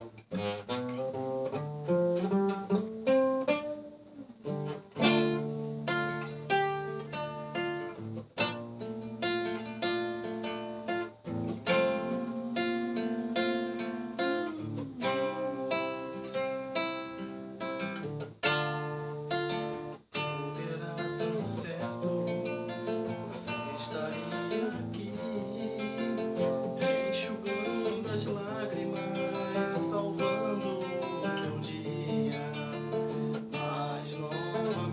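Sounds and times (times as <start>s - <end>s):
acoustic guitar melody: 0.0s - 34.9s.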